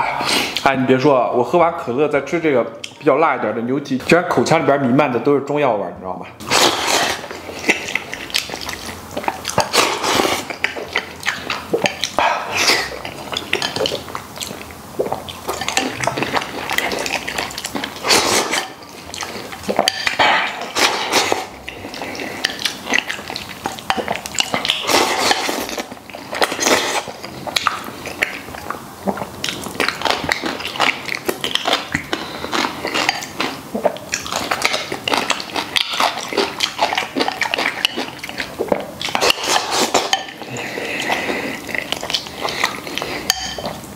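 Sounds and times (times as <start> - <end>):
slurping: 6.4 - 43.7
chewing: 6.4 - 43.9.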